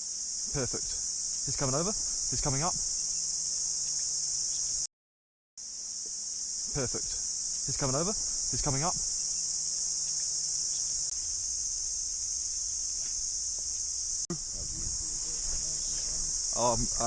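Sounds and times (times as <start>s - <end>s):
cicadas buzzing: 0.0s - 4.9s, 5.6s - 17.0s.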